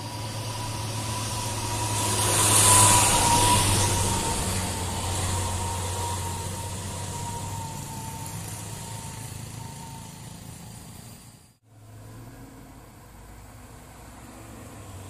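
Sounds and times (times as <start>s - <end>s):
truck diesel engine pulling away: 0.0s - 15.0s.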